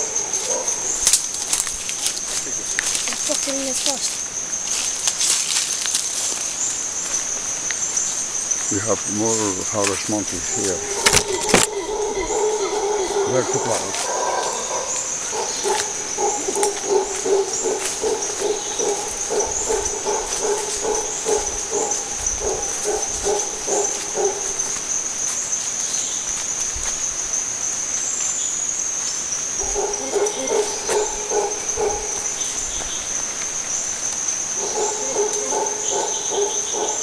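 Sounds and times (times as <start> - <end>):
howler monkeys calling: 0.0 - 5.4, 6.2 - 27.4, 28.1 - 37.0
insect buzz: 0.0 - 37.0.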